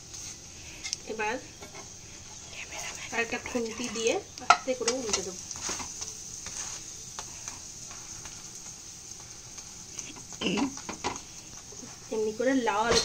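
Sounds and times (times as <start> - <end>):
paratha sizzling in oil: 0.0 - 13.0.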